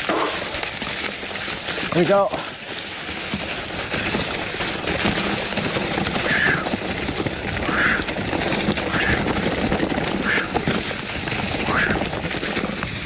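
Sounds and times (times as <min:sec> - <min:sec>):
bike rattling: 0:00.0 - 0:13.0
bike tyres crunching over rocks: 0:00.0 - 0:13.0.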